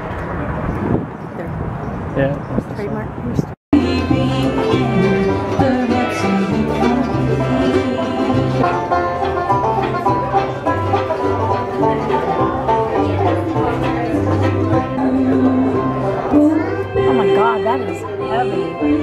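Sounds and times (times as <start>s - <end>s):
upright bass line: 3.7s - 19.0s
acoustic guitar: 3.8s - 19.0s
banjo picking: 3.8s - 19.0s
fiddle: 3.8s - 19.0s.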